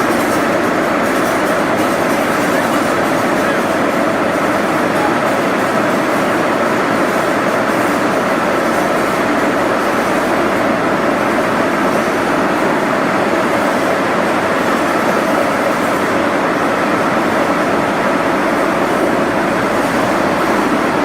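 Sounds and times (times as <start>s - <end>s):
factory machinery running: 0.0s - 21.0s.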